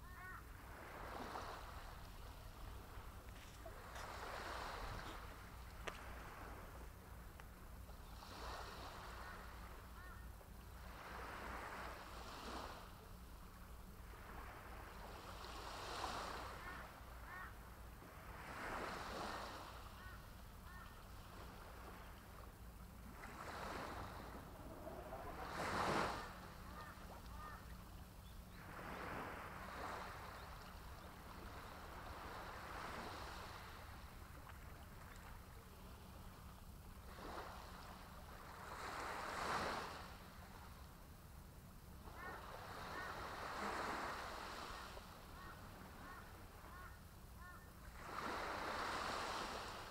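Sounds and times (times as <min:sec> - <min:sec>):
small waves washing on shore: 0:00.0 - 0:40.8, 0:42.0 - 0:47.0, 0:47.7 - 0:49.9.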